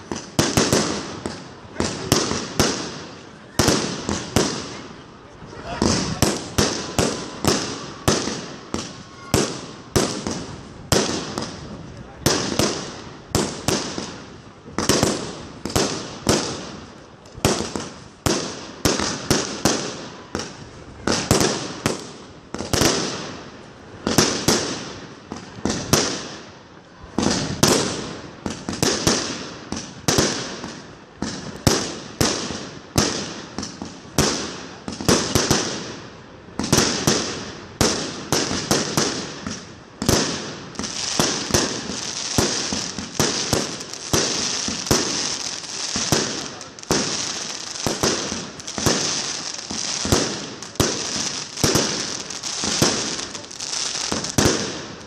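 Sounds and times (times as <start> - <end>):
crackling firework stars: 0.0 - 55.0
fireworks launching and bursting: 0.0 - 55.0.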